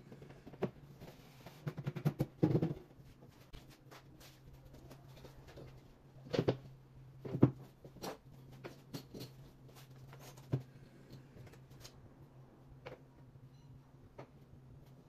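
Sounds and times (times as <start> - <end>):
low steady hum: 2.3 - 15.0.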